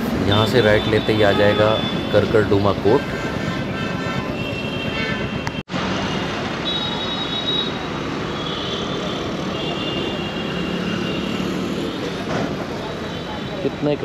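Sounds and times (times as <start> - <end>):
road rush: 0.0 - 14.0
high-pitched traffic horns: 0.3 - 12.2.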